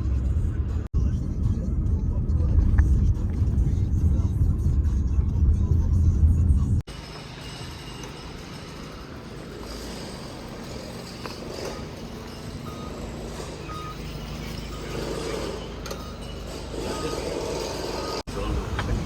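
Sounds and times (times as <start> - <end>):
traffic noise: 0.0 - 19.0
vehicle engine running: 0.0 - 19.0.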